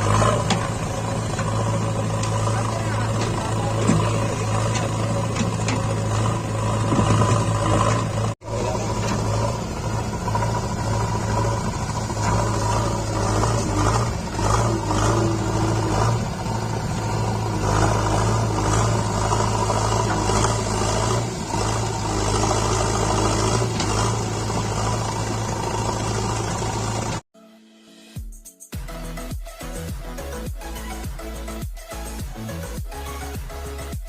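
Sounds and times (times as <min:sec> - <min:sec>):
diesel engine humming: 0:00.0 - 0:27.3.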